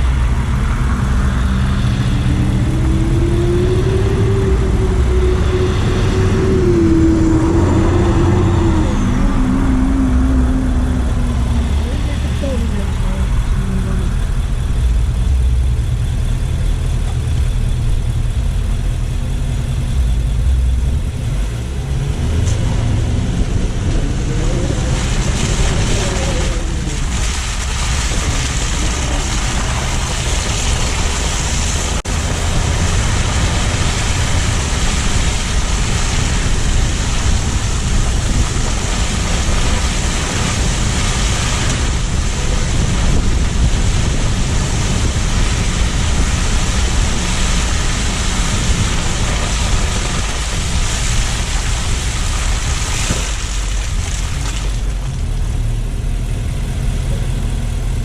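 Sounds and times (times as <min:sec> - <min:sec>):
wind buffeting microphone: 0:00.0 - 0:55.6
low rumble: 0:00.0 - 0:58.0
road and tyre noise: 0:00.0 - 0:58.0.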